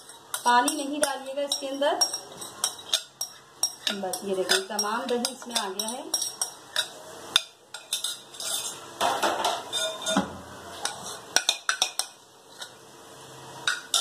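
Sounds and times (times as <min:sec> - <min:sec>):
spoon clinking against bowl and pan: 0:00.0 - 0:12.7, 0:13.6 - 0:14.0.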